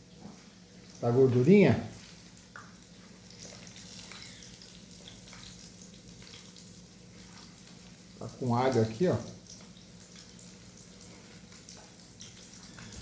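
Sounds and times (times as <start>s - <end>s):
fat sizzling: 0.2s - 13.0s.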